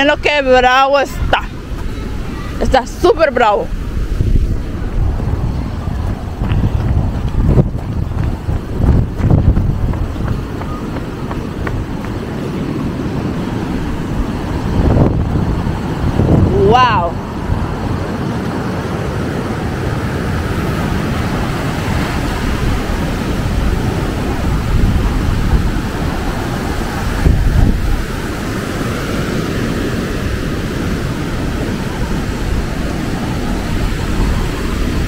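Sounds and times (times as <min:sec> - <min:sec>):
surf breaking on a beach: 0:00.0 - 0:35.0
wind rumbling on microphone: 0:00.0 - 0:35.0.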